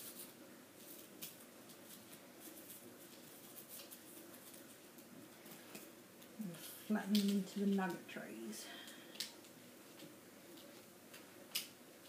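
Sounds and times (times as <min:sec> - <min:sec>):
faint scratching and tapping: 0:00.0 - 0:11.7.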